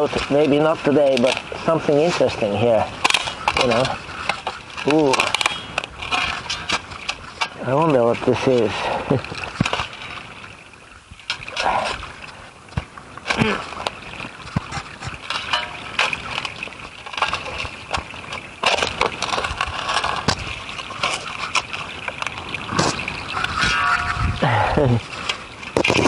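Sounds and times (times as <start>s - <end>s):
loose dirt shifting: 0.0s - 26.0s.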